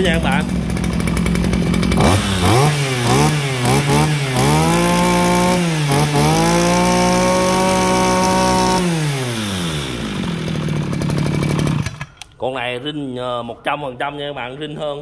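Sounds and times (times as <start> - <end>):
brush cutter engine revving: 0.0 - 12.4.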